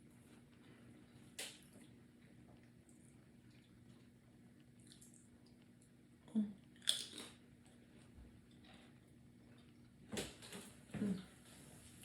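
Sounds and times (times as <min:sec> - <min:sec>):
person chewing pizza: 0:00.1 - 0:10.1.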